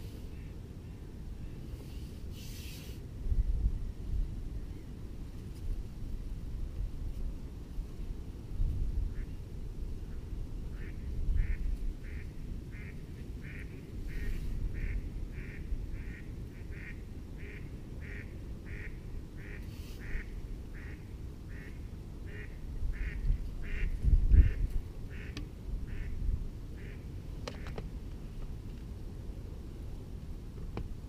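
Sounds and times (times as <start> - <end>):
wind rumble on microphone: 0.0 - 31.0.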